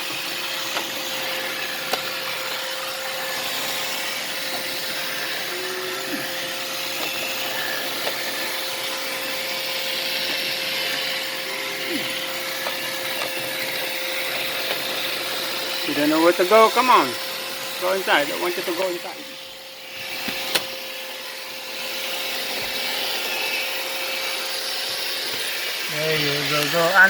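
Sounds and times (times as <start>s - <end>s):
robot vacuum whirring: 0.0s - 27.0s.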